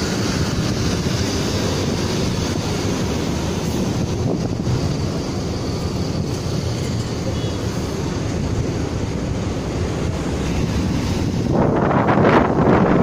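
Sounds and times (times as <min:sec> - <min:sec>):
wind buffeting microphone: 0:00.0 - 0:07.2, 0:08.0 - 0:13.0
low rumble of road traffic: 0:00.0 - 0:13.0.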